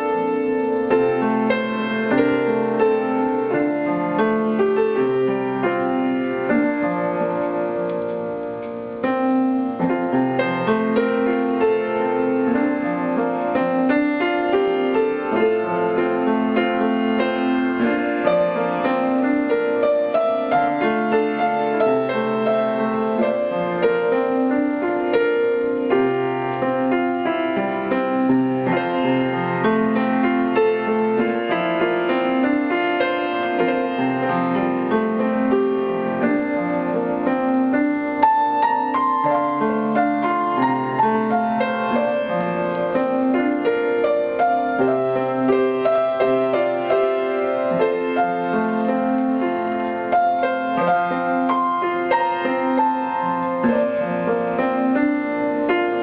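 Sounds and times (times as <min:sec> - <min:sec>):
solo piano piece: 0:00.0 - 0:56.0.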